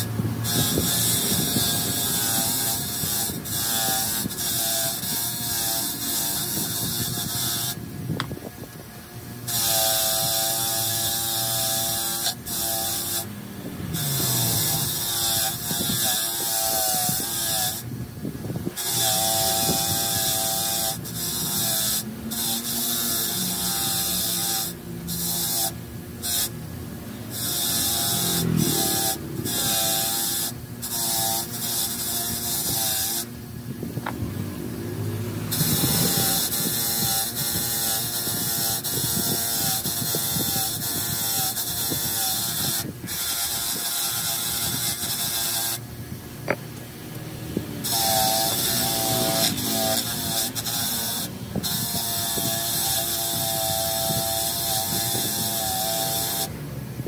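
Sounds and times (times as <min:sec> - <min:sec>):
bench grinder grinding metal: 0:00.0 - 0:57.0.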